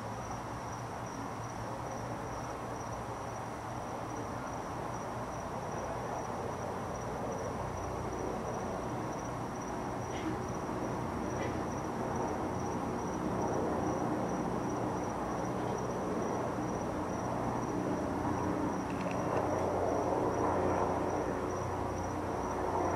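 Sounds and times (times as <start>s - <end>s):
background hum: 0.0s - 22.9s
crickets chirping: 0.0s - 22.9s.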